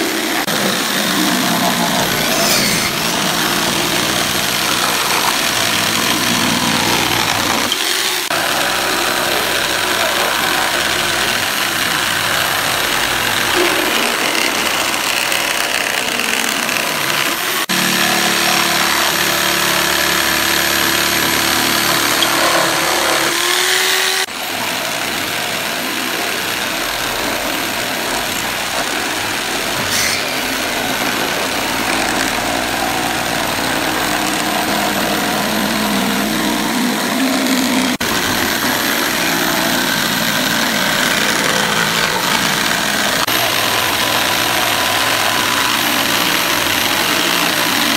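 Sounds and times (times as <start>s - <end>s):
electric jigsaw cutting wood: 0.0s - 47.9s.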